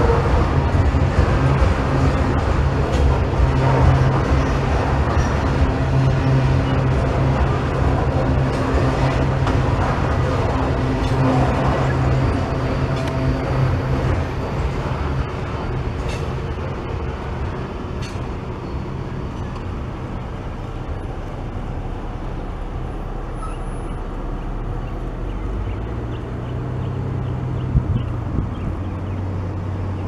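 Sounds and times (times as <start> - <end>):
car engine approaching: 0.0 - 30.0
train wheels rumbling on rail: 0.0 - 30.0.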